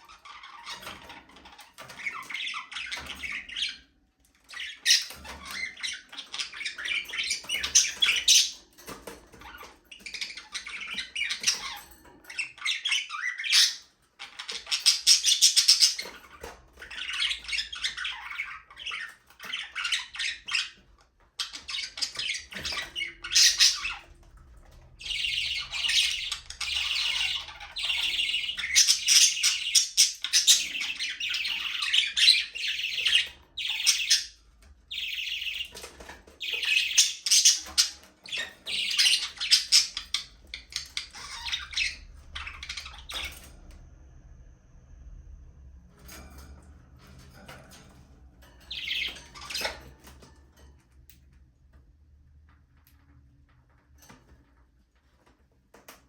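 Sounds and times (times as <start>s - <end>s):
budgerigars chirping and squawking: 0.0s - 43.9s, 45.9s - 50.9s.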